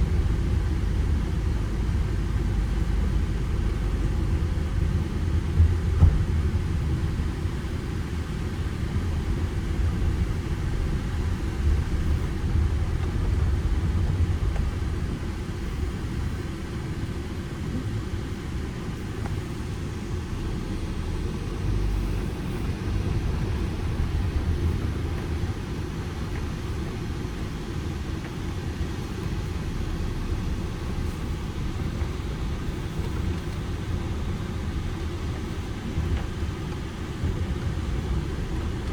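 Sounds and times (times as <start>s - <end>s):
van engine drone inside cabin: 0.0s - 38.9s.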